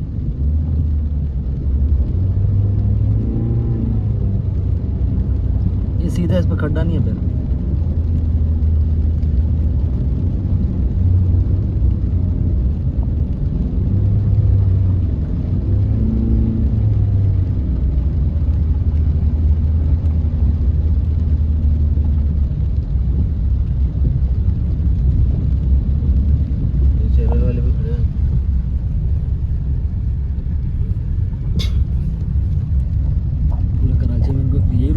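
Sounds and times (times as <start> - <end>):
road rumble: 0.0 - 34.9
vehicle engine: 0.0 - 34.9.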